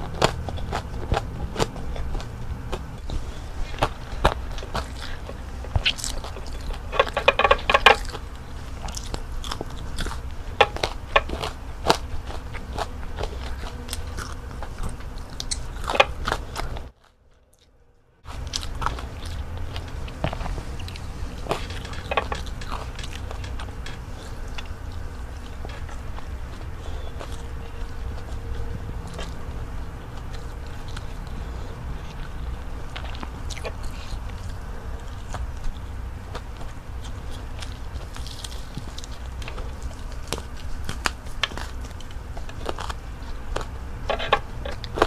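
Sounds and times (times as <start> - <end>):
chewing and mouth clicks: 0.0 - 45.0
crunching bites of fried food: 0.0 - 45.0
steady low hum: 0.0 - 45.0.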